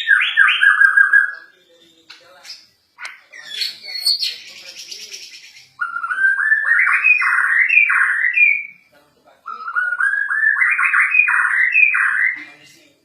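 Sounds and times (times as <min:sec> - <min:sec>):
songbird trilling and whistling: 0:00.0 - 0:12.5.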